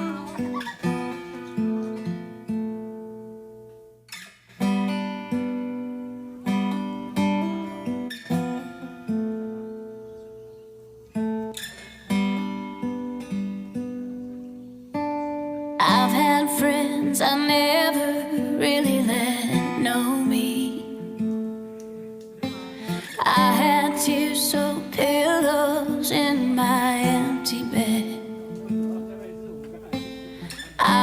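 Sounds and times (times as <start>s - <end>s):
acoustic guitar chords: 0.0s - 31.0s.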